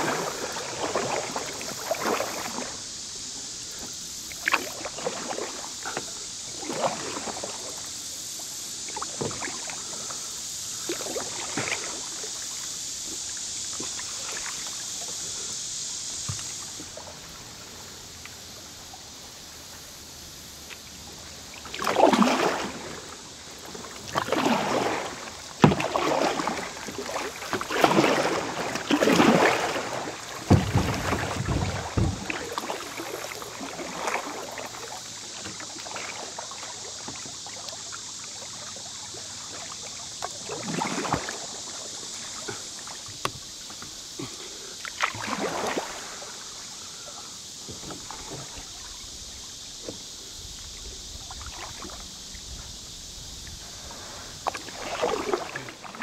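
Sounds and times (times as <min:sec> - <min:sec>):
kayak paddle splashing in water: 0:00.0 - 0:56.0
steady hiss: 0:00.0 - 0:56.0
water running off paddle blades: 0:00.0 - 0:56.0.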